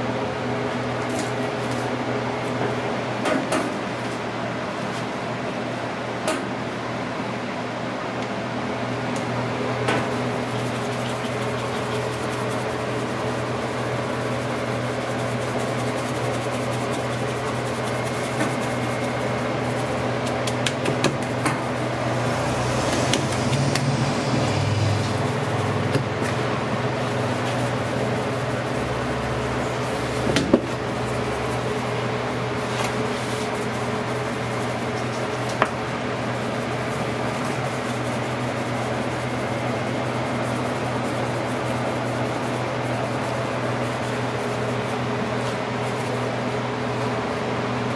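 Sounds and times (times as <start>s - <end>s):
mechanical hum of kitchen equipment: 0.0s - 47.9s.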